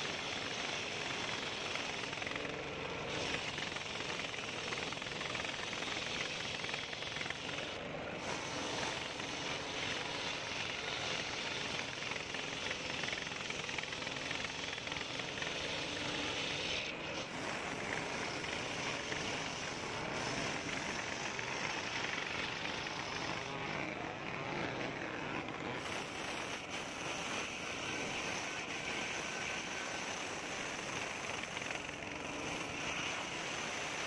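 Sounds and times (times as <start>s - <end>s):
circular saw cutting wood: 0.0s - 34.0s.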